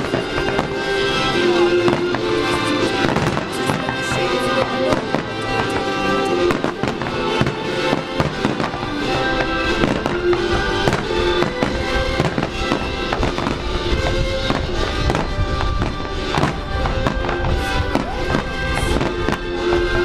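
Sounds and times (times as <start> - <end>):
fireworks bangs: 0.0 - 20.0
music: 0.0 - 20.0.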